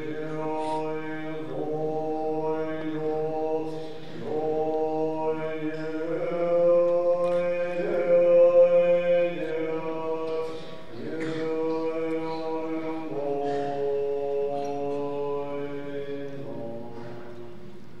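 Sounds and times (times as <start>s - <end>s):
monk chanting: 0.0s - 18.0s.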